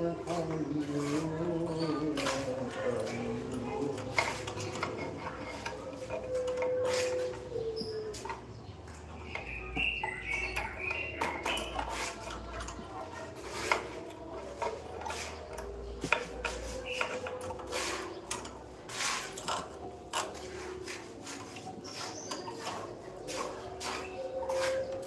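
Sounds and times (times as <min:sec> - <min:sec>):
scraping and tapping on stone: 0:00.0 - 0:25.0.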